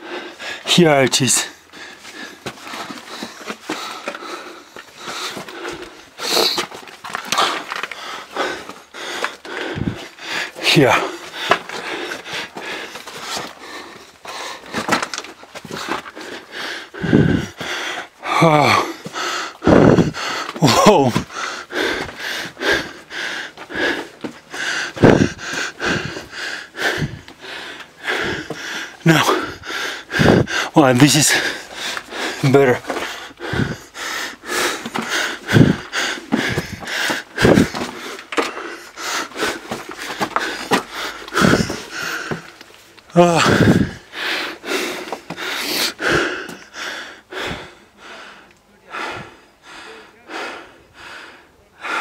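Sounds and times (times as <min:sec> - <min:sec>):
person breathing hard: 0:00.0 - 0:52.0
person gasping deeply: 0:07.3 - 0:15.0, 0:15.8 - 0:42.5, 0:43.1 - 0:52.0.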